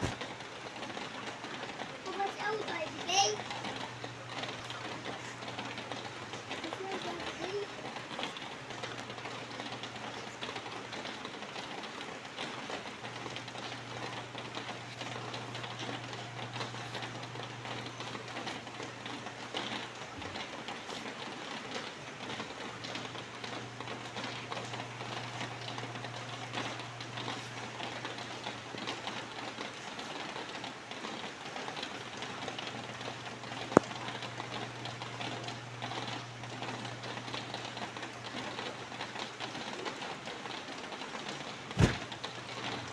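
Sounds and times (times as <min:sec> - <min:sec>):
steady rain patter: 0:00.0 - 0:42.9.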